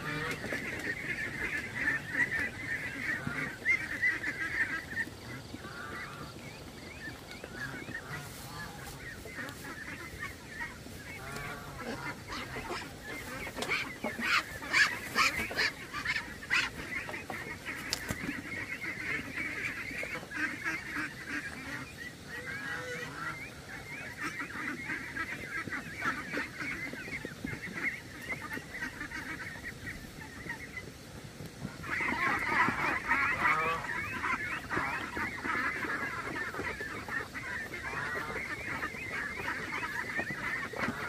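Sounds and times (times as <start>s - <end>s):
geese honking: 0.0s - 41.0s.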